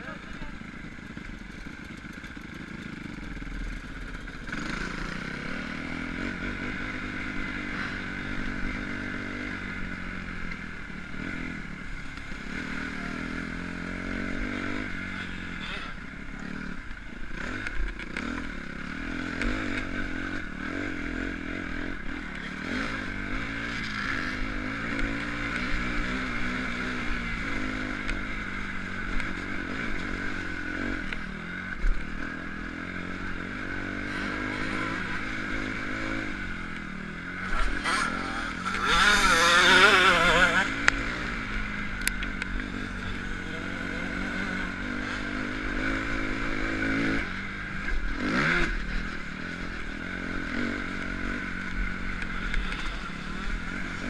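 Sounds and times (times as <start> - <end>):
motocross bike engines: 0.0 - 54.0
motorbike revving hard: 2.1 - 54.0.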